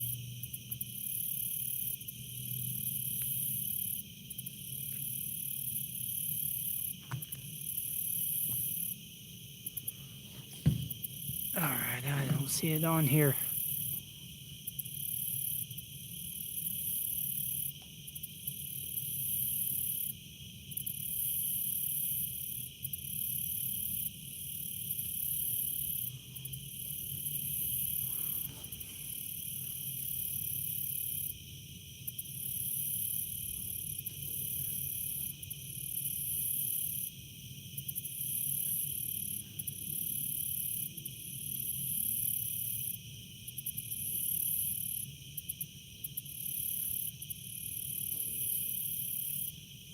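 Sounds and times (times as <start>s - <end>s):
high insect buzz: 0.0s - 49.9s
insect trills: 0.0s - 49.9s.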